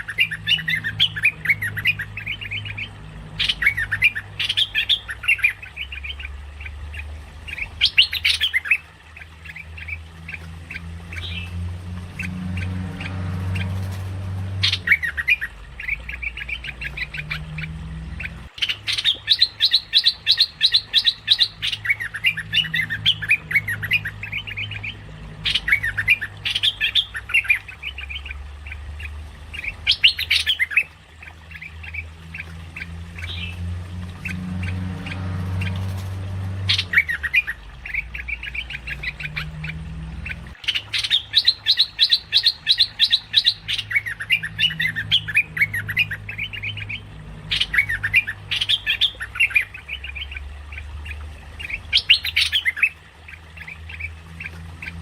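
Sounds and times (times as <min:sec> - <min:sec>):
bird singing chattering notes: 0:00.0 - 0:36.0, 0:36.6 - 0:55.0.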